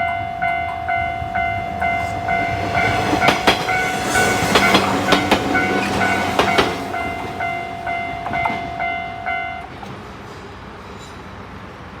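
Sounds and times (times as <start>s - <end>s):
level-crossing alarm dings: 0.0s - 9.8s
train wheels clacking on rail joints: 0.0s - 11.3s.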